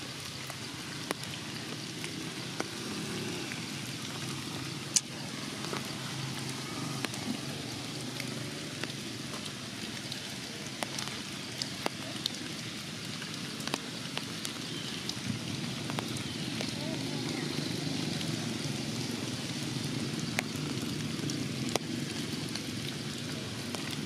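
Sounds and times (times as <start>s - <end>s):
rain on leaves: 0.0s - 24.0s.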